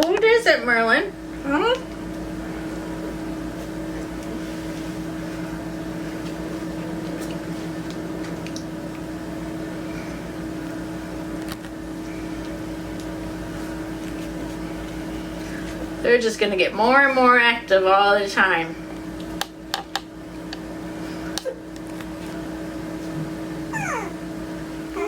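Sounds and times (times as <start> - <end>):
appliance motor hum: 0.0 - 25.0.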